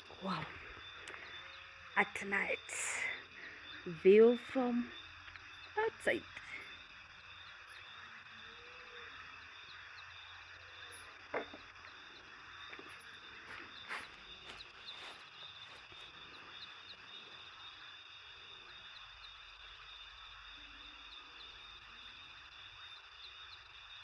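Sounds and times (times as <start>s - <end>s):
night insects chirring: 0.0s - 24.0s.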